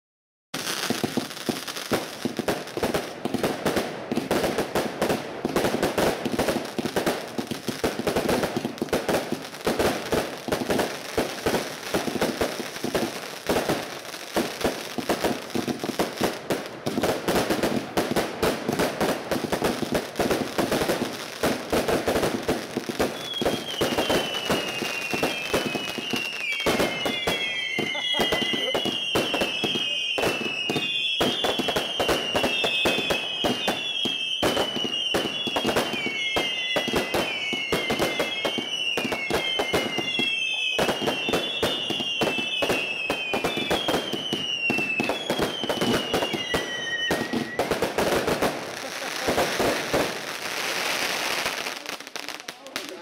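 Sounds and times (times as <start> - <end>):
firework bangs and crackling: 0.6 - 53.0
whistling firework shots: 0.6 - 53.0.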